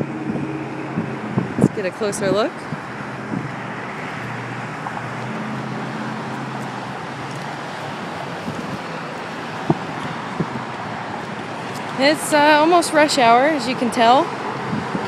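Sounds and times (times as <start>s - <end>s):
low engine hum: 0.0s - 15.0s
highway traffic hiss: 0.2s - 15.0s.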